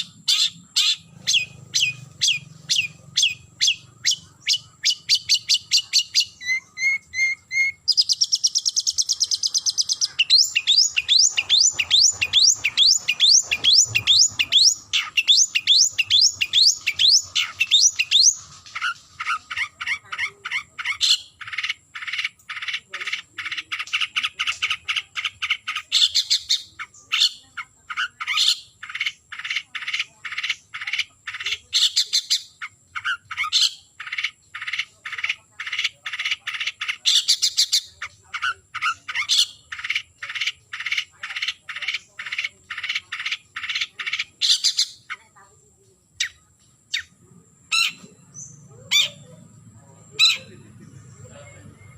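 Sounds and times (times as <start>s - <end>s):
bird harsh scratchy chattering: 0.0s - 45.3s.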